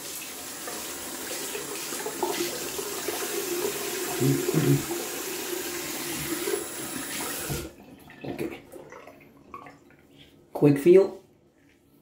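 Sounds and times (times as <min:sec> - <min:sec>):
tap water running into sink: 0:00.0 - 0:09.8.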